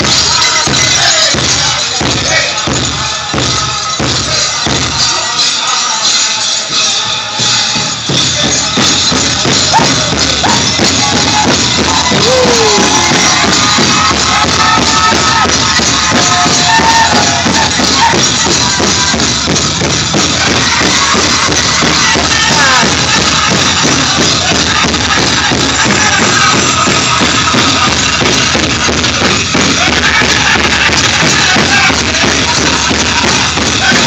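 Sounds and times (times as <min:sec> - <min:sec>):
drum group singing: 0:00.0 - 0:34.0
fast steady drumbeat: 0:00.0 - 0:34.0
jingling bells: 0:00.0 - 0:34.0.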